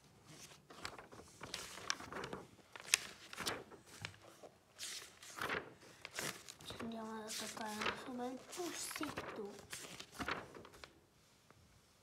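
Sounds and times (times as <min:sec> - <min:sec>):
paper pages rustling: 0:00.1 - 0:11.0
light clicks and crinkles: 0:00.3 - 0:11.0.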